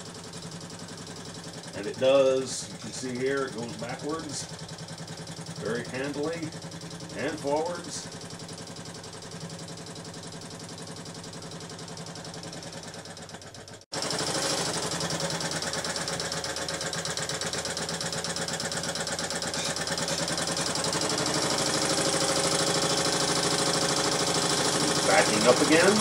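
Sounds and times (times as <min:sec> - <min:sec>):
sewing machine stitching: 0:00.0 - 0:26.0.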